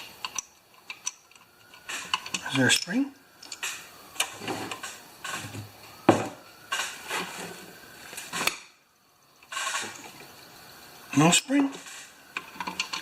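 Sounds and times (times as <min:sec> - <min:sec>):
parts rattling and clicking: 0:00.0 - 0:07.6, 0:09.4 - 0:10.4, 0:11.2 - 0:13.0.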